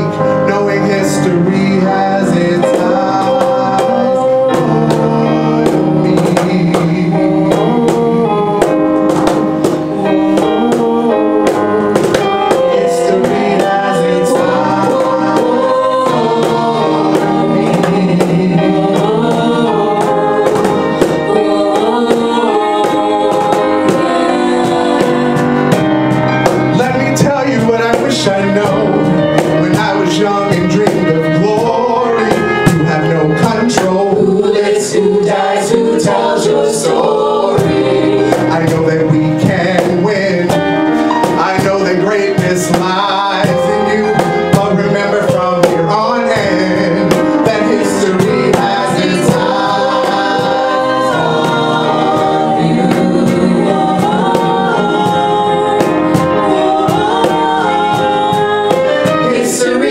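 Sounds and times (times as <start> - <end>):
backing vocal harmonies: 0.0 - 59.9
man singing lead: 0.0 - 59.9
piano: 0.0 - 59.9
drum hits: 1.2 - 59.9.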